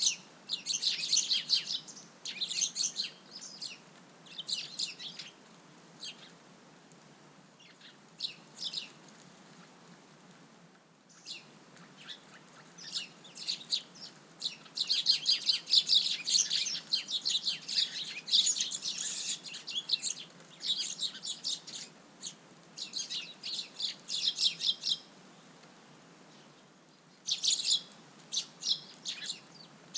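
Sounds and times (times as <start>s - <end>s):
small birds chirping: 0.0s - 6.4s, 7.6s - 9.8s, 11.0s - 29.9s.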